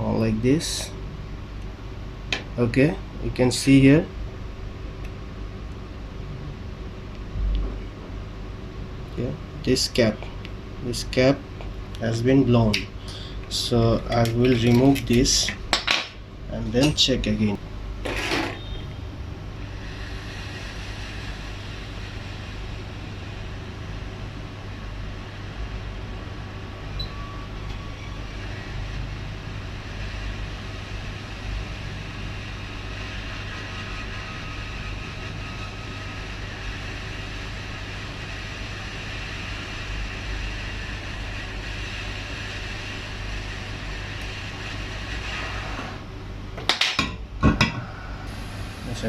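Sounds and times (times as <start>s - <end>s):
fan blowing with low hum: 0.0s - 49.0s.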